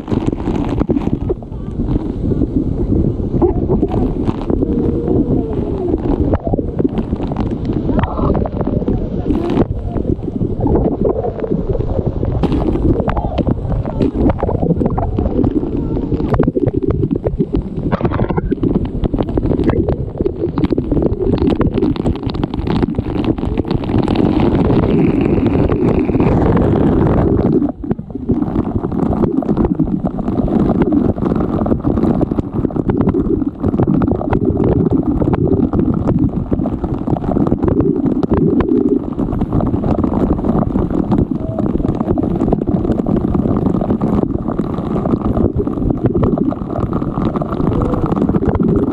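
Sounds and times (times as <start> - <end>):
falling water rushing: 0.0 - 48.9
microphone jolts: 0.0 - 48.9.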